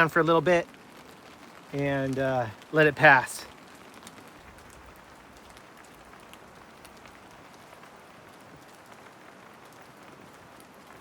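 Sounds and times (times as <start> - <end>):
light rain hissing: 0.0 - 11.0
raindrops ticking: 0.0 - 11.0.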